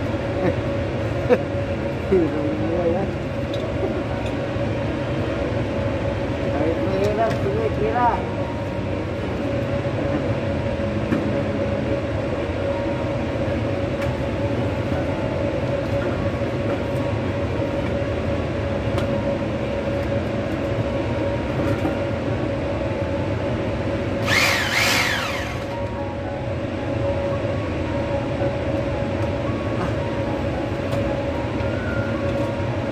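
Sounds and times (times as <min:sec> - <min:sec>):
loud mechanical rumble: 0:00.0 - 0:32.9.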